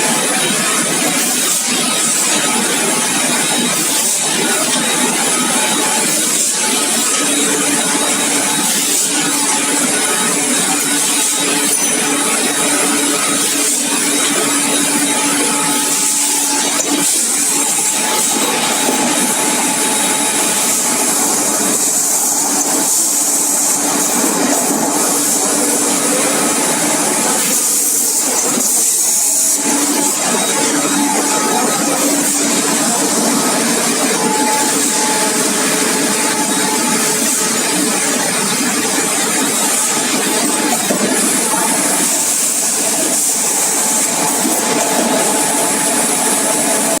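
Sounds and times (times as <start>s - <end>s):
machine running with hiss: 0.0s - 47.0s.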